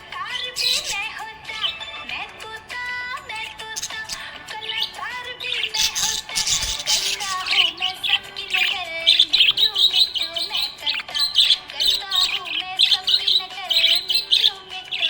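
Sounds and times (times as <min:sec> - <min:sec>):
budgerigar chirping and warbling: 0:00.0 - 0:15.0.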